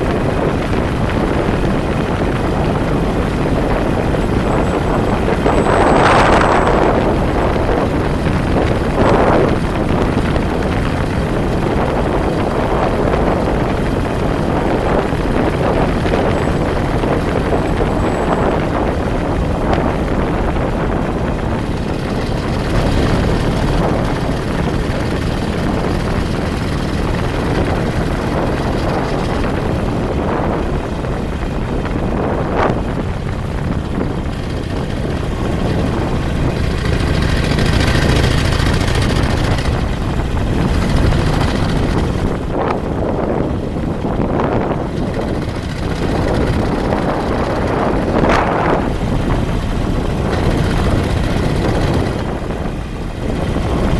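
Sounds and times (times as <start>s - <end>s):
vehicle engine and road noise: 0.0s - 53.9s
wind buffeting microphone: 0.0s - 53.9s.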